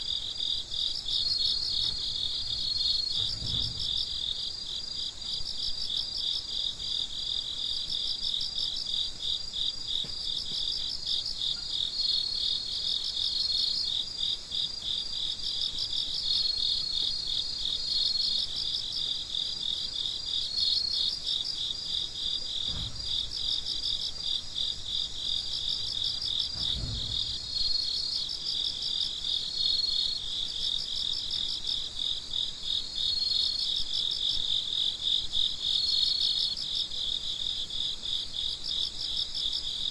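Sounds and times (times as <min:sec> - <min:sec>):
crickets chirping: 0:00.0 - 0:39.9
high insect trill: 0:00.0 - 0:39.9.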